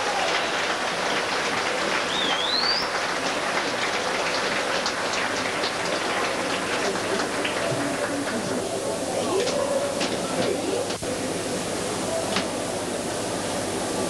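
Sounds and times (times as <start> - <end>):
hubbub of indoor crowd: 0.0 - 14.0.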